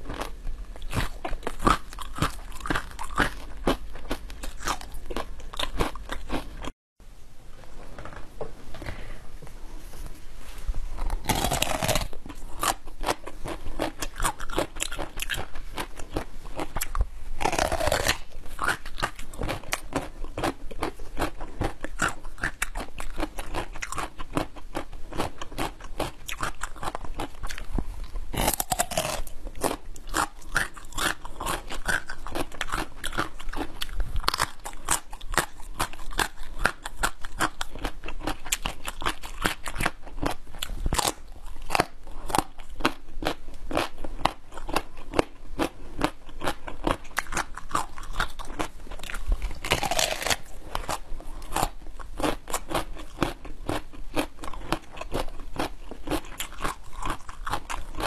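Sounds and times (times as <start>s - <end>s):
radish crunching while chewed: 0.0s - 6.7s, 11.0s - 58.0s.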